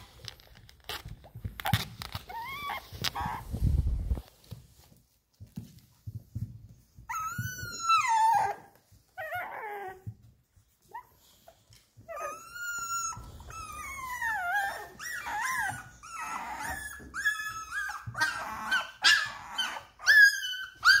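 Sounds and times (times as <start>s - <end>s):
puppies whining and squealing: 0.0s - 4.0s, 6.8s - 21.0s.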